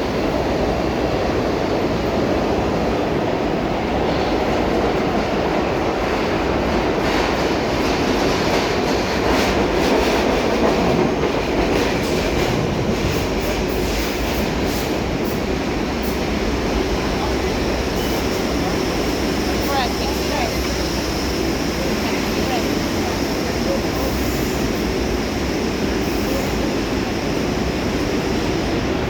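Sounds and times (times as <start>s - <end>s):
subway train rumbling on rails: 0.0s - 29.0s.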